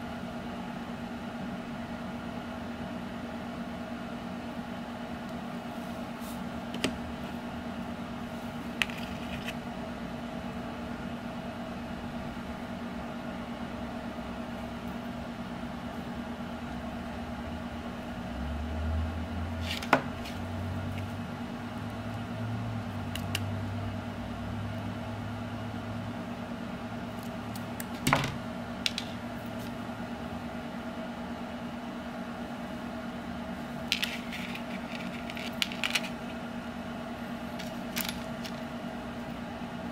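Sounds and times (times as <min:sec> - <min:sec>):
room hum: 0:00.0 - 0:39.9.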